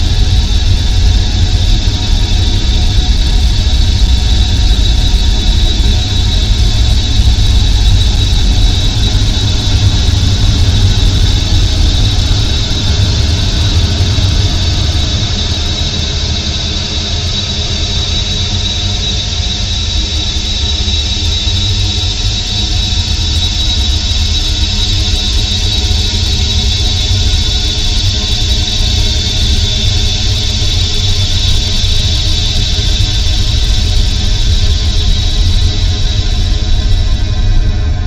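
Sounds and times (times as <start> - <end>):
ambient drone with low rumble: 0.0 - 38.0.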